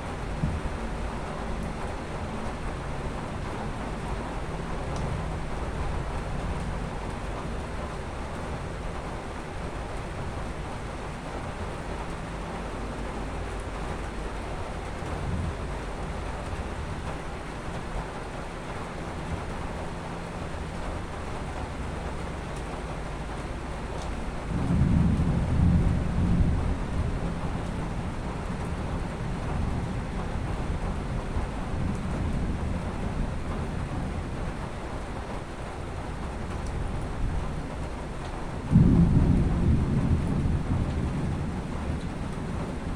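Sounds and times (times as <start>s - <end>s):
rain hiss: 0.0s - 42.9s
thunderstorm: 0.0s - 42.9s.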